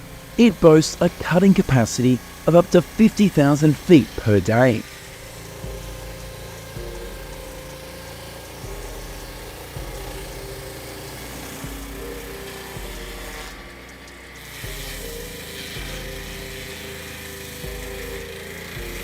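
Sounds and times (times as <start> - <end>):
synth background music with bass: 0.0 - 19.0.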